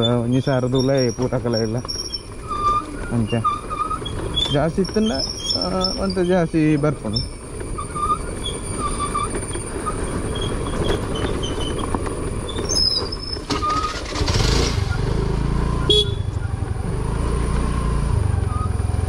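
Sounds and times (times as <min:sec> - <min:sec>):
vehicle engine running: 0:03.0 - 0:19.0.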